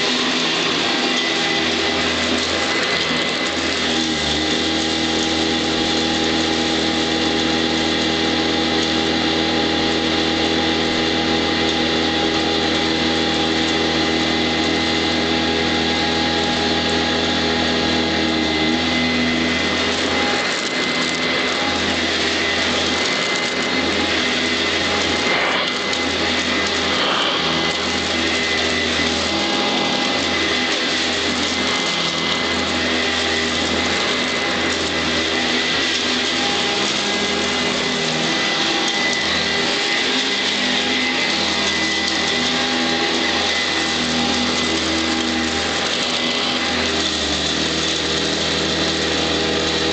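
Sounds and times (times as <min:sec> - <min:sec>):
upright vacuum cleaner running: 0:00.0 - 0:49.9.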